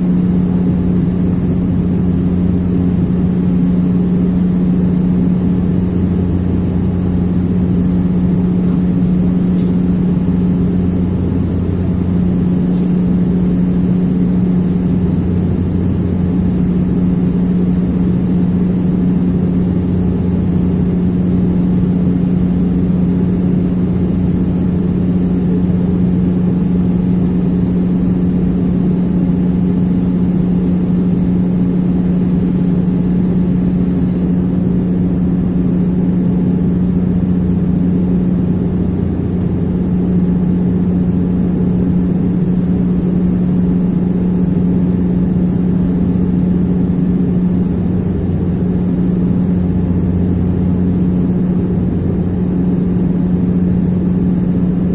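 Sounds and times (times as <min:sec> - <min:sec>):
aircraft engines droning: 0:00.0 - 0:54.9.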